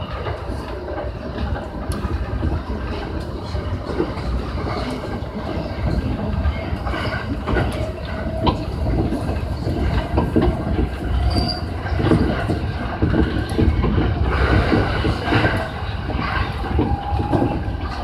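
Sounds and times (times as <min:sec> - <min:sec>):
train rumble: 0:00.0 - 0:18.0
wheels squealing on rails: 0:00.0 - 0:18.0.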